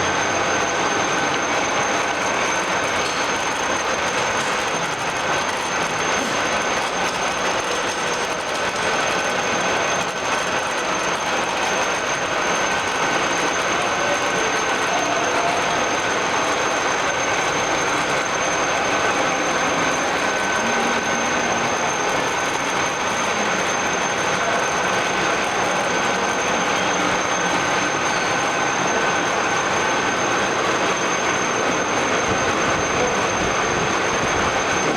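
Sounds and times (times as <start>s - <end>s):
drilling machine gear whirr: 0.0s - 34.9s
high-pitched machine whine: 0.0s - 34.9s.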